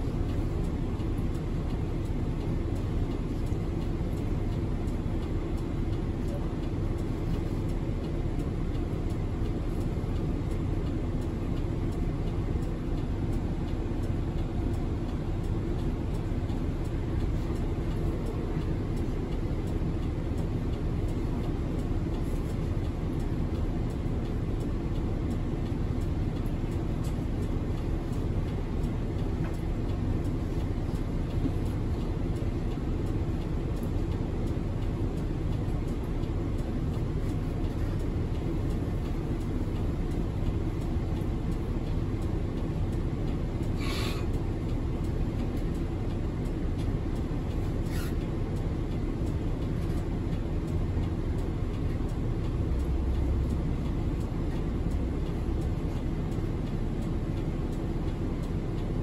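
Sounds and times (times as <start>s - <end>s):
bus engine hum: 0.0s - 59.0s
road and tyre noise: 0.0s - 59.0s.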